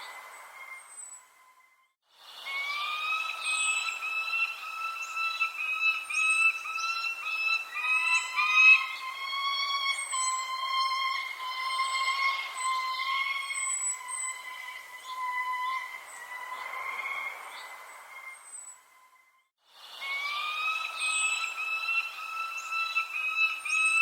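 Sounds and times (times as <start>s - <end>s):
loud pulsing whistling tone: 0.0s - 19.4s, 20.0s - 24.0s
birds chirping: 0.0s - 24.0s.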